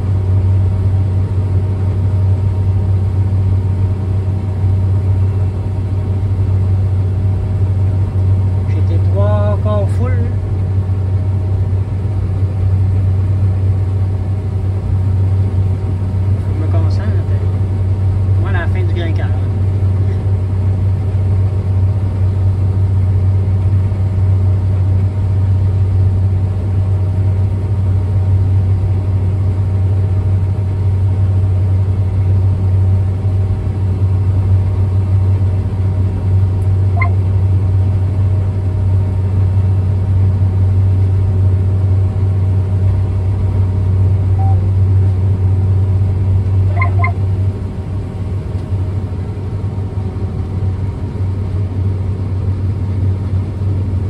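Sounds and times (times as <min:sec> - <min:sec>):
combine harvester drone: 0:00.0 - 0:54.0.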